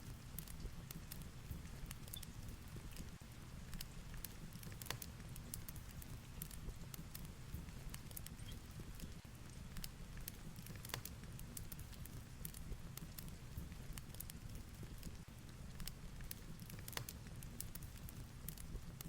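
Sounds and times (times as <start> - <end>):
fireplace crackling and popping: 0.0 - 19.0.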